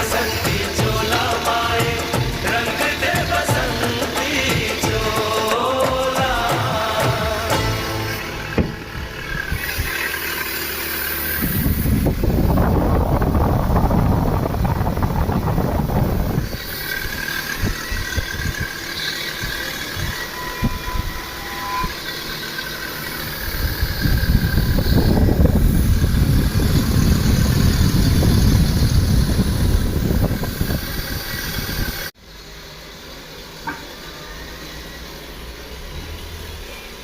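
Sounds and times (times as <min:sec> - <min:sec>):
machine rumbling: 0:00.0 - 0:32.7.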